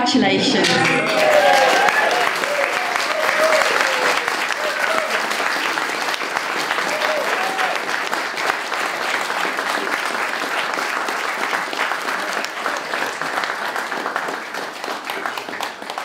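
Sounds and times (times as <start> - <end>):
crowd applauding: 0.6 - 16.0.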